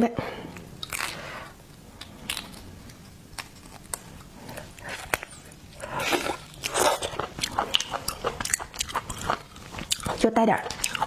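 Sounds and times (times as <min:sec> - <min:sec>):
shellfish being chewed: 0:00.6 - 0:11.0.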